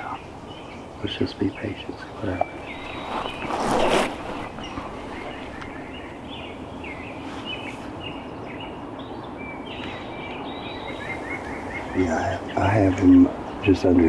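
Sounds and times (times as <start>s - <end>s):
outdoor background hiss: 0.0s - 14.0s
small songbirds chirping: 0.0s - 14.0s.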